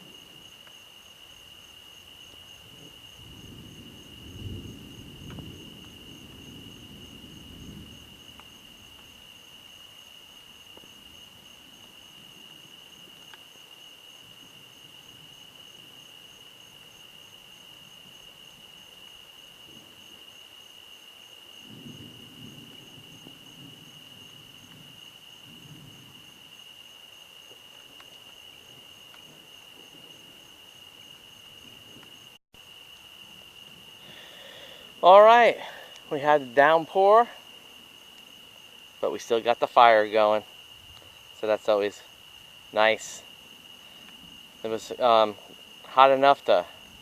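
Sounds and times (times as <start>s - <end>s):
distant thunder rumbles: 0.0s - 13.4s, 14.2s - 20.3s, 21.4s - 47.0s
night insect chorus trilling: 0.0s - 47.0s.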